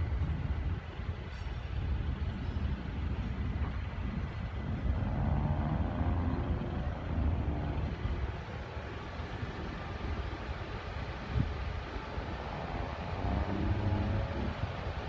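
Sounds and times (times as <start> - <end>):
distant heavy diesel machinery rumble: 0.0 - 15.0
faint whine: 0.0 - 15.0.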